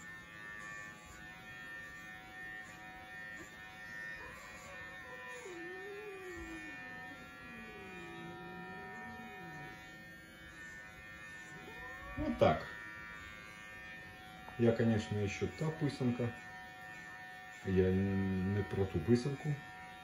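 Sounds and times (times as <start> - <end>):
electric pet clipper buzzing: 0.0 - 20.0.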